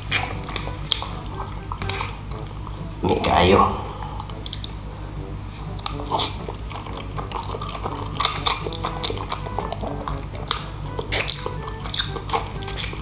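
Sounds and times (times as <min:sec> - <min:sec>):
faint background music: 0:00.0 - 0:13.0
person slurping and chewing: 0:00.0 - 0:13.0.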